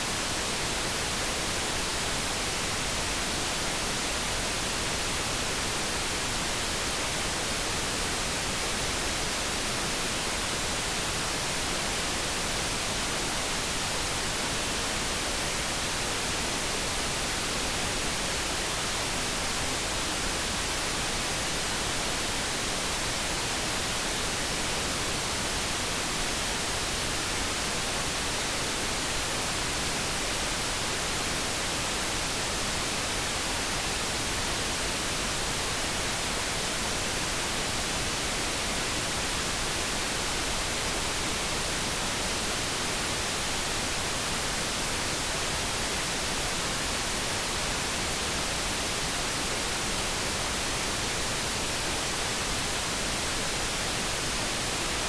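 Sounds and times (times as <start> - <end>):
constant synthetic hiss: 0.0 - 55.0.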